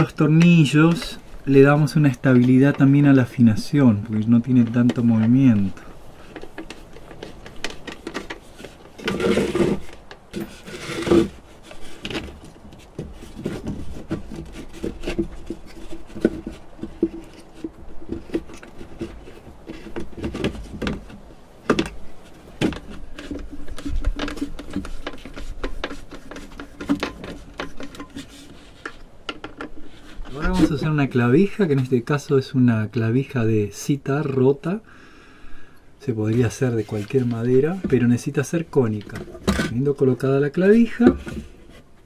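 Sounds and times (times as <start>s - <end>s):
scraping of wood and gourd: 0.0s - 42.0s.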